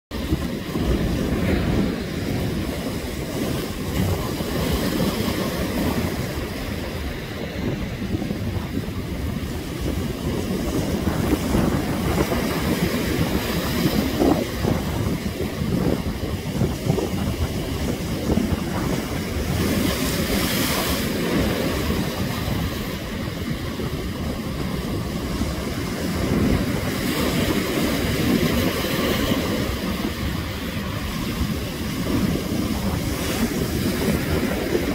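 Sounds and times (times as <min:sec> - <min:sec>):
surf breaking over rocks: 0:00.1 - 0:34.9
wind buffeting microphone: 0:00.1 - 0:34.9.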